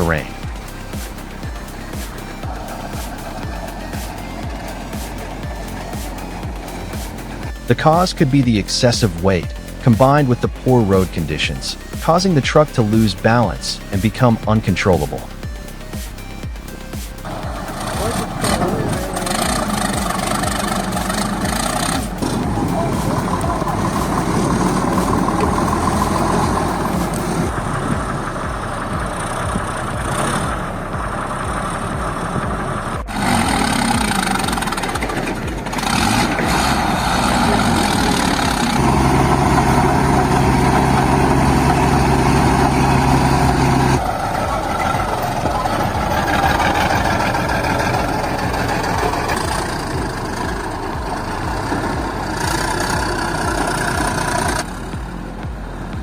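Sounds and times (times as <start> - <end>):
heavy vehicle engines revving: 0.0 - 56.0.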